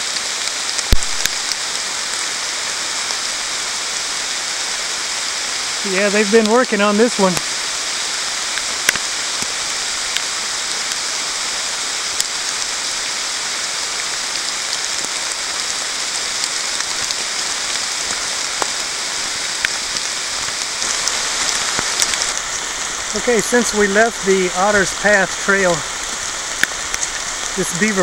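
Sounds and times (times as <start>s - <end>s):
rain falling on forest canopy: 0.0s - 28.0s.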